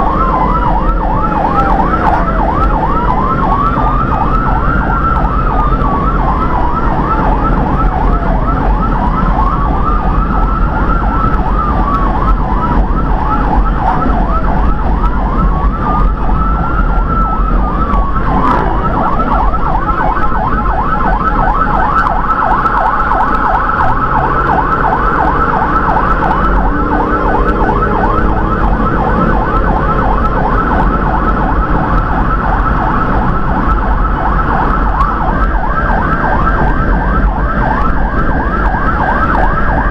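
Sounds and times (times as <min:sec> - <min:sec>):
electronic siren wailing: 0:00.0 - 0:39.9
engine and road noise: 0:00.0 - 0:39.9.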